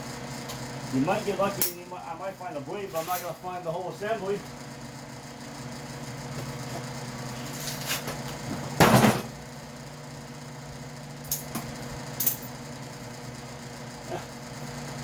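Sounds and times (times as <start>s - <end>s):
shop fan humming: 0.0s - 15.0s.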